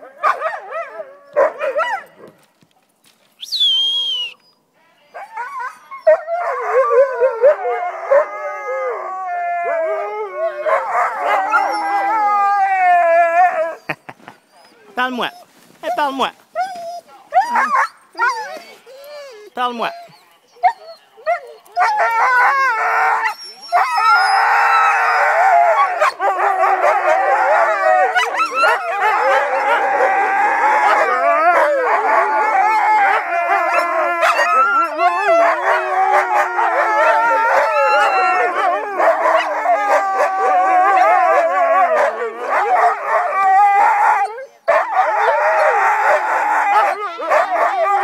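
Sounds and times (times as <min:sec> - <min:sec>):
sled dogs howling and yipping: 0:00.0 - 0:02.3, 0:05.2 - 0:48.0.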